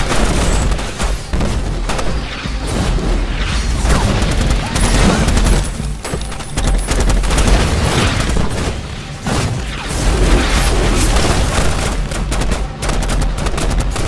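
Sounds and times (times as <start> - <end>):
rifle and machine-gun fire: 0.0 - 3.1, 3.8 - 14.0
explosions booming: 0.0 - 14.0.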